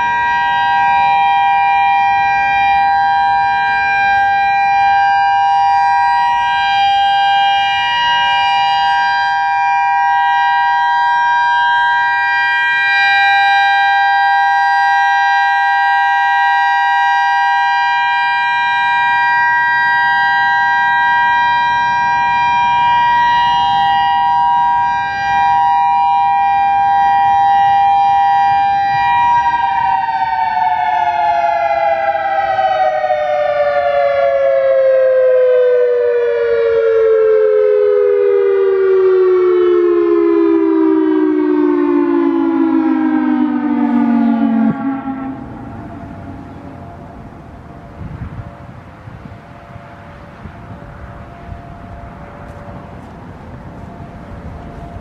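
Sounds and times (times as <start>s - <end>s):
two-tone warning siren: 0.0s - 55.0s.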